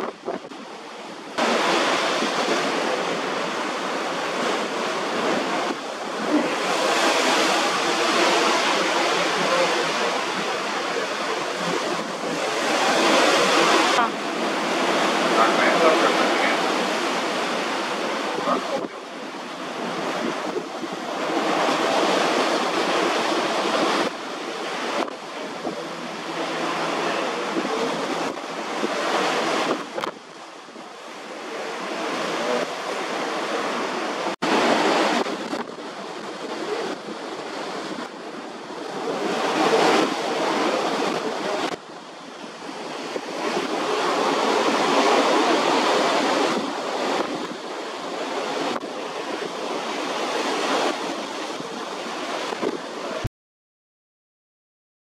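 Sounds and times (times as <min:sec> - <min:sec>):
sea water rushing: 0:00.0 - 0:53.3
wind on microphone: 0:00.0 - 0:53.3.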